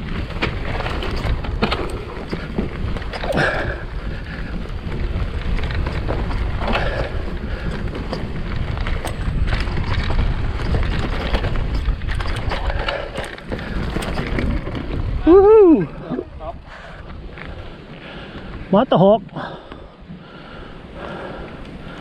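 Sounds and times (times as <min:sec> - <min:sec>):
bike rattling clicks and knocks: 0:00.0 - 0:18.8
bike tyre roar on dirt: 0:00.0 - 0:22.0
wind buffeting microphone: 0:00.0 - 0:22.0.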